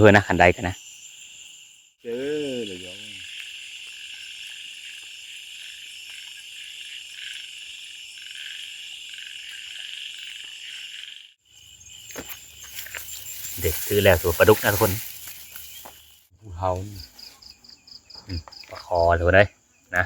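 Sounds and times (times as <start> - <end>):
chorus of frogs calling: 0.0 - 20.0.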